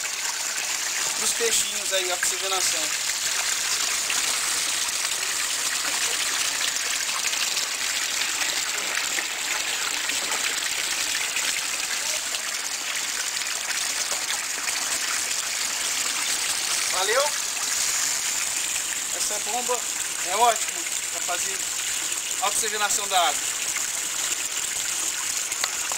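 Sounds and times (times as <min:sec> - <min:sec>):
water gushing and splashing: 0:00.0 - 0:25.9.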